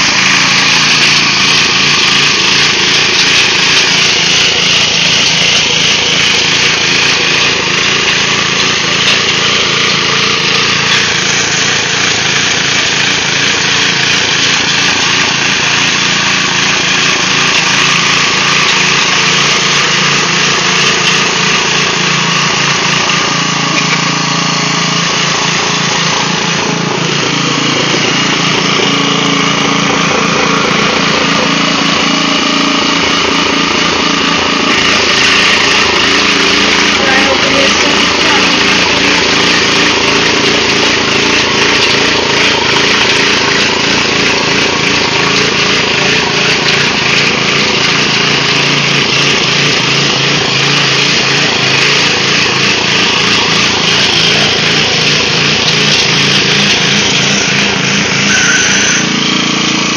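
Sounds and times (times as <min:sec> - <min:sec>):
rototiller engine running: 0:00.0 - 0:59.9.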